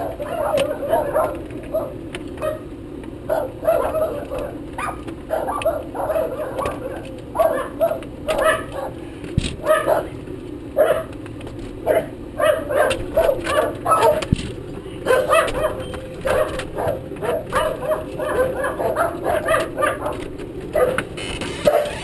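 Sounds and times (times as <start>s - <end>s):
dogs yapping barks: 0.0s - 9.0s, 9.6s - 11.2s, 11.8s - 14.4s, 15.0s - 22.0s.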